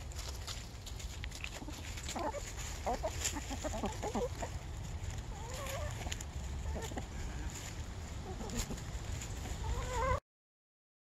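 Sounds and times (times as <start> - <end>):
feet scratching dry leaves: 0.0 - 10.2
hens clucking: 1.3 - 10.2.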